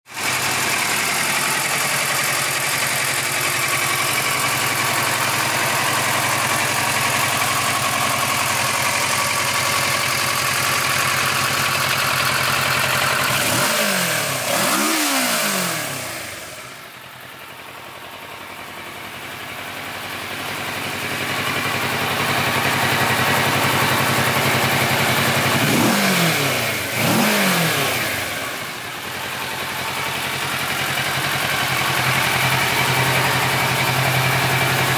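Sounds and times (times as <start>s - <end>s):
motorcycle engine revving: 0.1s - 17.2s, 20.1s - 34.9s
motorcycle engine idling: 0.1s - 34.9s.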